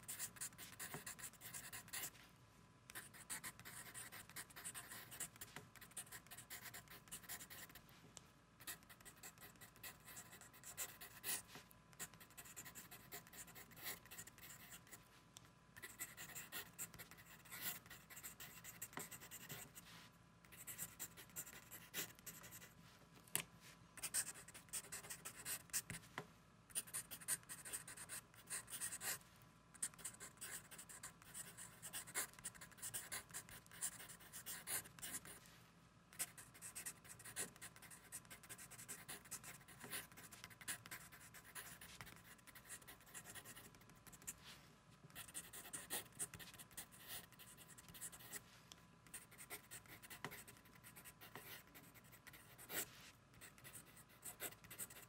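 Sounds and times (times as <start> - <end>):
pen scratching on paper: 0.0 - 2.1, 2.9 - 7.8, 8.6 - 15.0, 15.8 - 19.9, 20.5 - 22.7, 24.0 - 26.1, 26.7 - 29.2, 29.8 - 35.4, 36.2 - 44.4, 45.1 - 48.4, 49.1 - 55.0.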